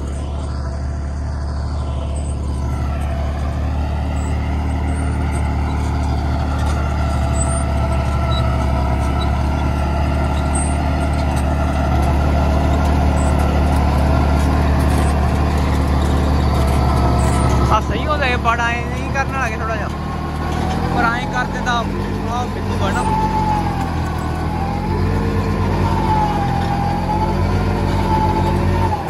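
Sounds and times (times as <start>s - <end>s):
rotor churning soil: 0.0s - 29.0s
tractor diesel engine running: 0.0s - 29.0s.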